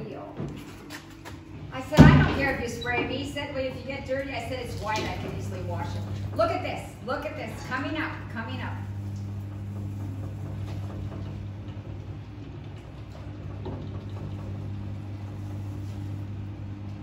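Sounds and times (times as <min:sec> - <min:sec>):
potter's wheel electric hum: 0:00.0 - 0:17.0.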